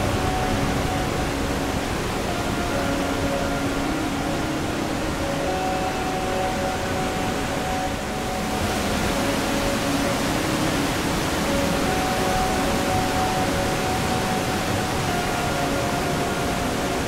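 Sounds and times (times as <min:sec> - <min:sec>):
rushing white water: 0:00.0 - 0:17.0.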